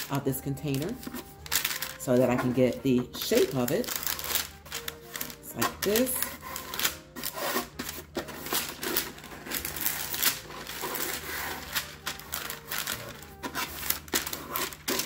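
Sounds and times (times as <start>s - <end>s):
parchment paper crinkling: 0.0s - 15.0s.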